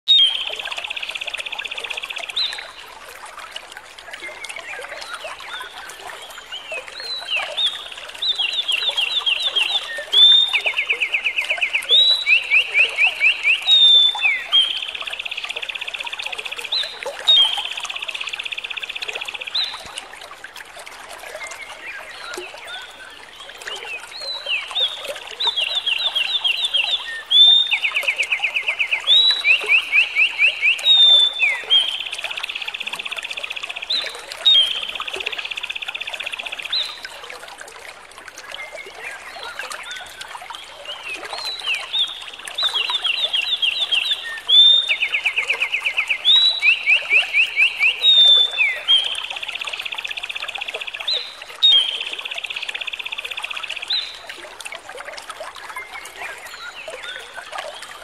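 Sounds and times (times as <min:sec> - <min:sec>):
songbird singing rapid trills: 0:04.3 - 0:19.9, 0:21.4 - 0:37.2, 0:38.6 - 0:54.3.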